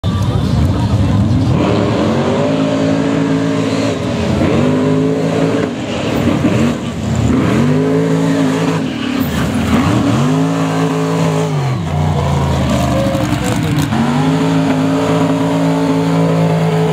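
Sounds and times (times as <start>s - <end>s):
truck engine revving: 0.0s - 16.9s.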